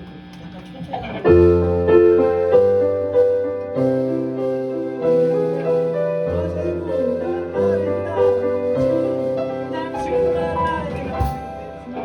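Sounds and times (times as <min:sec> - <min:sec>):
keyboard sustained chords: 0:01.2 - 0:12.0
bass line: 0:01.4 - 0:12.0.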